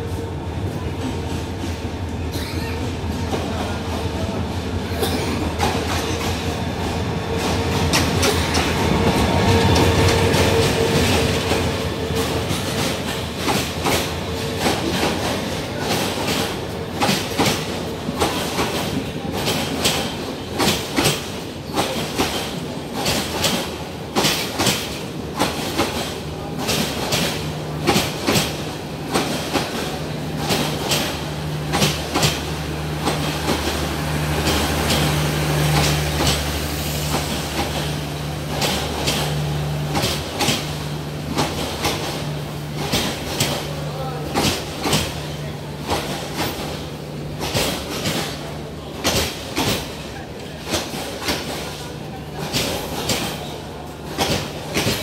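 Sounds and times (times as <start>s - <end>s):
diesel train engine hum: 0.0s - 55.0s
train wheels clickety-clack: 0.0s - 55.0s.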